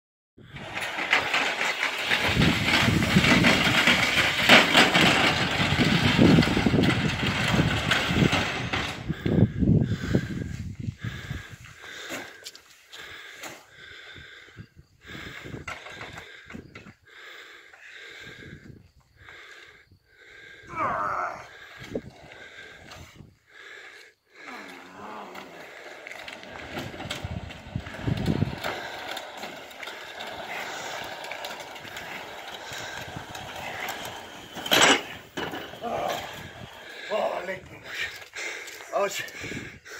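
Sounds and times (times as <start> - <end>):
weight sled scraping on concrete: 0.4 - 39.9.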